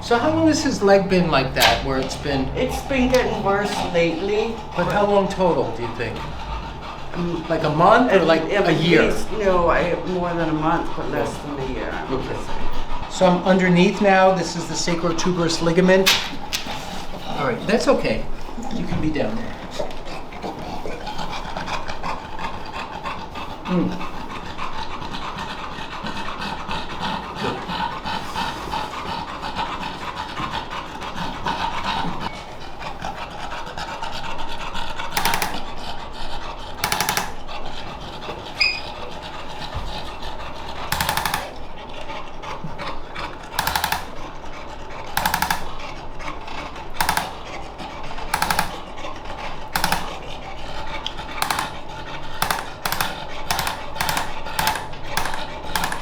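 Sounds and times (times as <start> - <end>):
dog breathing noisily: 0.0 - 56.0
dog snorting: 0.0 - 56.0.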